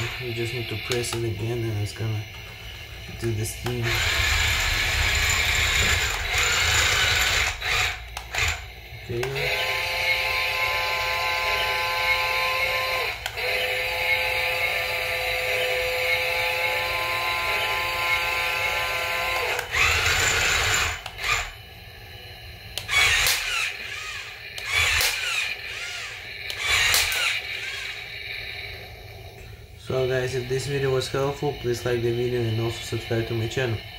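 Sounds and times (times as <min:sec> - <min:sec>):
toy tank motors whining: 0:00.0 - 0:33.9.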